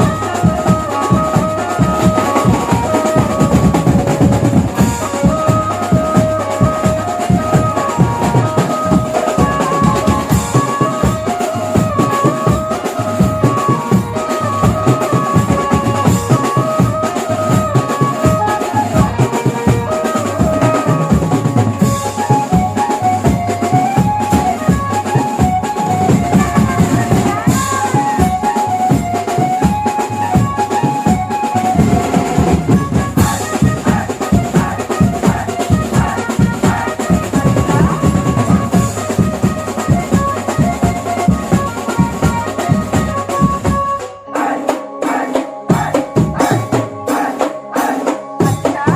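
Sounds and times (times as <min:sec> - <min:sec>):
banjo melody: 0:00.0 - 0:35.4, 0:36.0 - 0:48.9
fast dense drumming: 0:00.0 - 0:43.8, 0:45.7 - 0:47.4.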